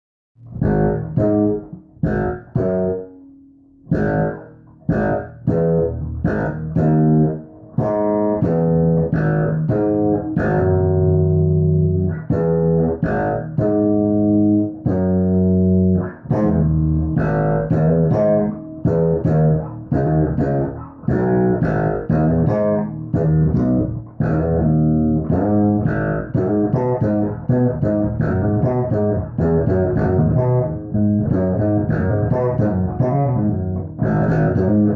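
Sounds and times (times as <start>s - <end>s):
electric guitar riffing: 0.5s - 3.2s, 3.8s - 34.9s.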